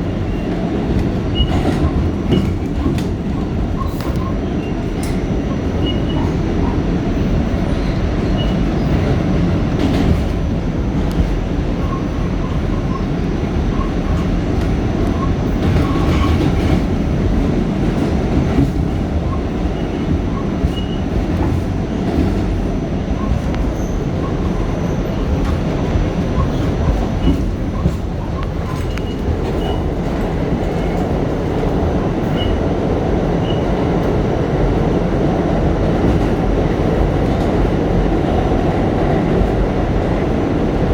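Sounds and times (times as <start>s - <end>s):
subway car wheels rumbling: 0.0s - 40.9s.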